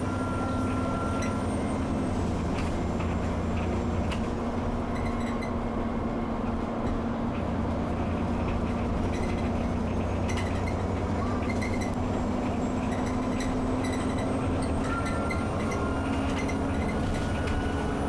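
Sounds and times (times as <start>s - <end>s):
bus engine drone: 0.0s - 18.0s.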